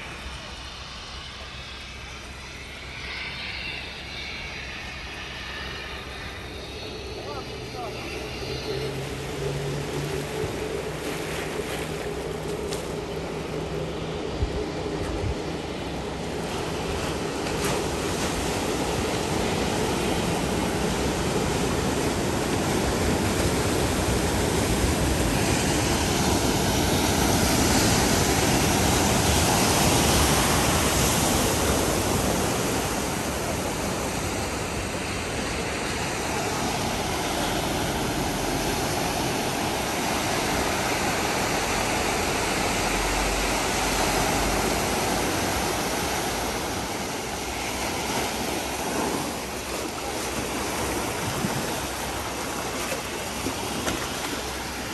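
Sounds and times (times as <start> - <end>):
wave breaking and rushing water: 0.0 - 54.9.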